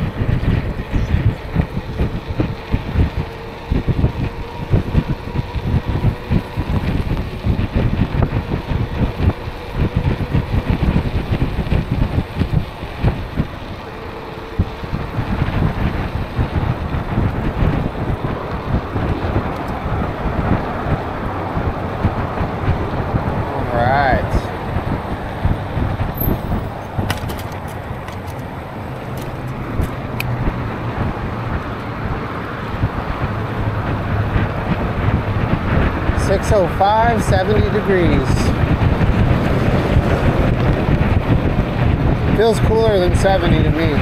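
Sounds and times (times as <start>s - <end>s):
road traffic passing: 0.0s - 44.0s
wind buffeting microphone: 0.0s - 44.0s.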